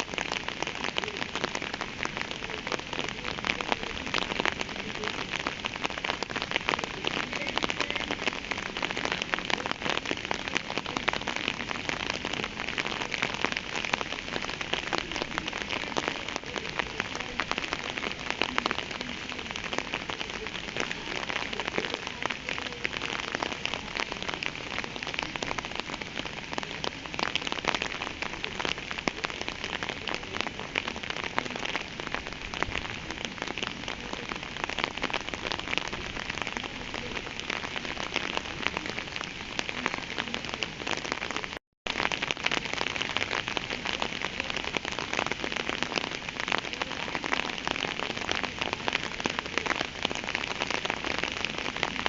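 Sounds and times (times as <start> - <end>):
steady rain patter: 0.0 - 52.0.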